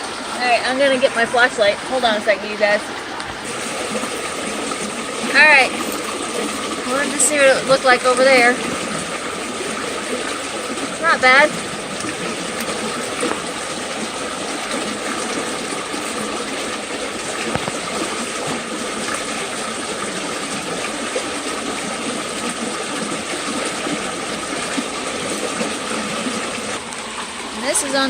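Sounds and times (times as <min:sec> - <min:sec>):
fast creek rushing: 0:00.0 - 0:28.0.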